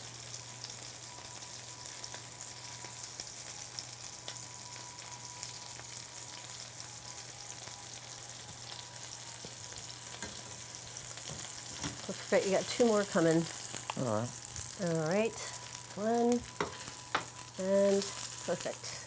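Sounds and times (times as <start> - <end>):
chicken frying in hot oil: 0.0 - 19.0.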